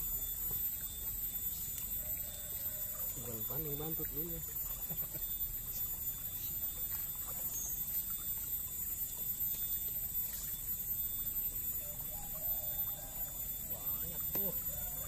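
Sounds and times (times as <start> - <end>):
faint high ringing: 0.0 - 15.0
low rushing creek water: 0.0 - 15.0.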